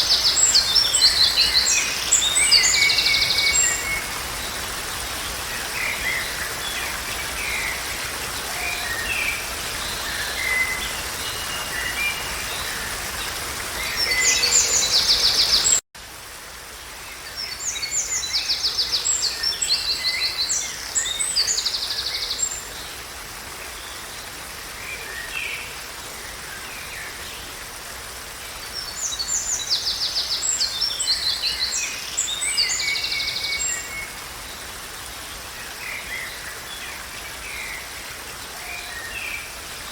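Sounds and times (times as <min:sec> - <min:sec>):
songbirds singing: 0:00.0 - 0:15.8, 0:17.1 - 0:23.0, 0:28.5 - 0:39.9.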